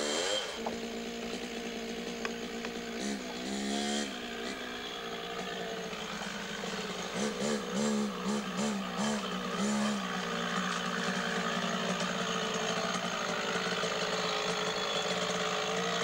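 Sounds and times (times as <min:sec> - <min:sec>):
two-stroke motorcycle engine: 0:00.0 - 0:16.0.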